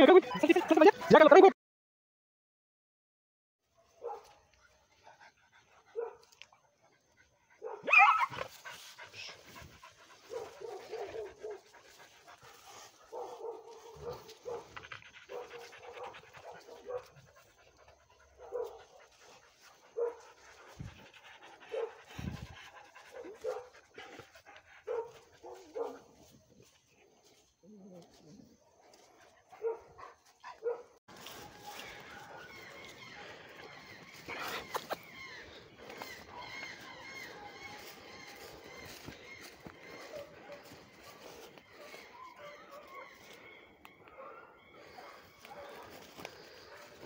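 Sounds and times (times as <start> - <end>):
hounds panting: 4.0 - 47.0
dogs yelping: 7.5 - 26.4, 27.6 - 47.0.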